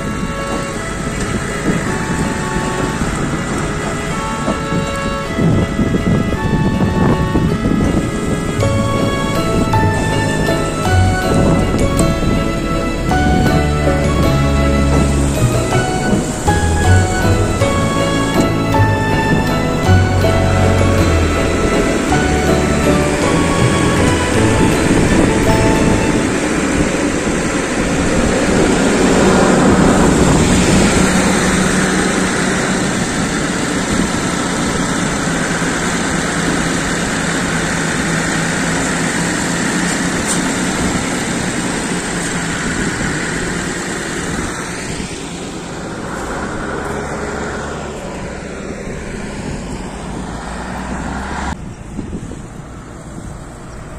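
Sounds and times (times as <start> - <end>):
loader engine running: 0.0 - 53.9.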